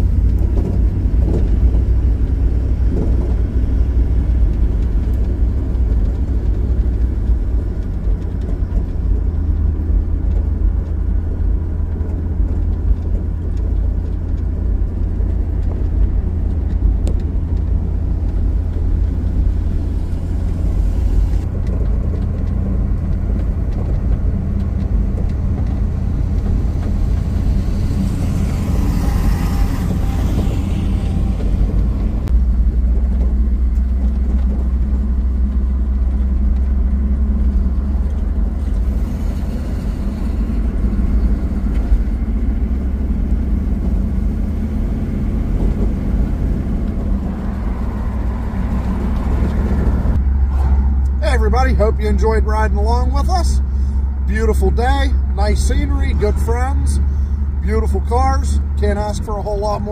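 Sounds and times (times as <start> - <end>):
car engine rumble: 0.0 - 59.9
road and wind noise: 0.0 - 59.9.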